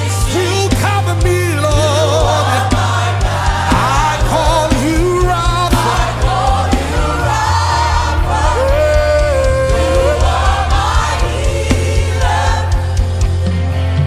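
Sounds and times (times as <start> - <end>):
gospel singers: 0.0 - 13.5
backing band: 0.0 - 14.0.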